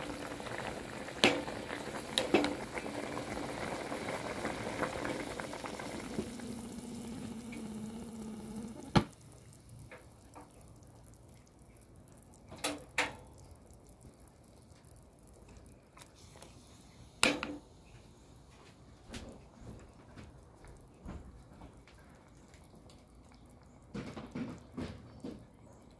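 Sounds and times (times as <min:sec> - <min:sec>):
curry bubbling in a pot: 0:00.0 - 0:25.9.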